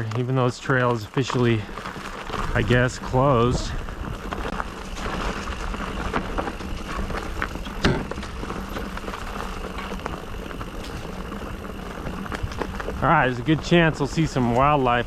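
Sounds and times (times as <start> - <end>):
bike rattling: 0.0 - 15.0
tyres rolling over dirt and rocks: 0.0 - 15.0.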